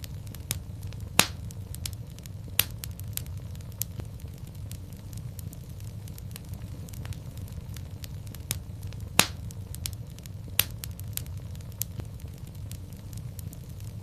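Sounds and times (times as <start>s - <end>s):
fire crackling: 0.0s - 14.0s
fire pops: 0.0s - 14.0s
low steady rumble: 0.0s - 14.0s.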